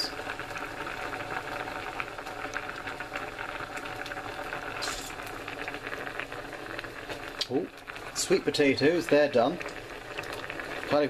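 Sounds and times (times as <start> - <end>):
pot boiling and bubbling: 0.0 - 11.0.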